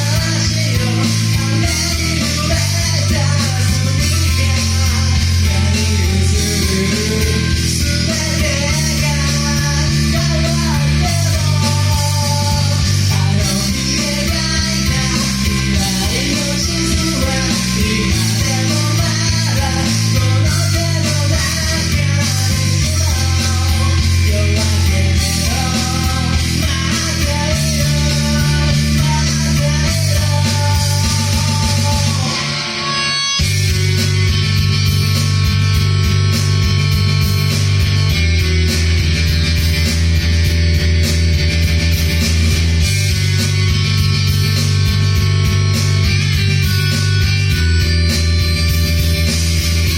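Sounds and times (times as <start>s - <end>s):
electric guitar: 0.0s - 49.9s
heavy bass line: 0.0s - 49.9s
loud rock music: 0.0s - 49.9s.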